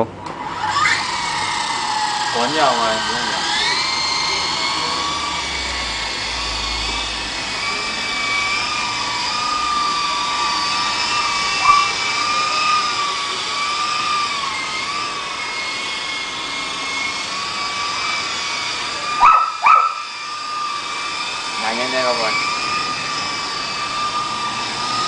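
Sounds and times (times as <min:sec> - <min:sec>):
model helicopter motor whine: 0:00.0 - 0:25.0.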